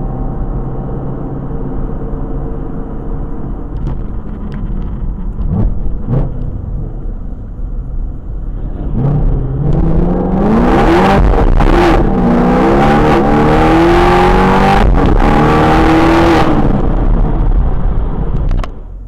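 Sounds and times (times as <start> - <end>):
car engine with loud exhaust: 0.0 - 19.0.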